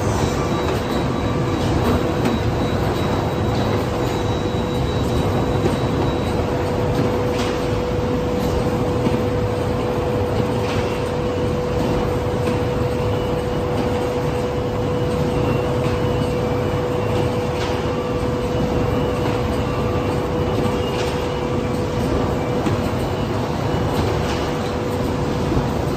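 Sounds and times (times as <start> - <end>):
machinery humming: 0.0 - 25.9.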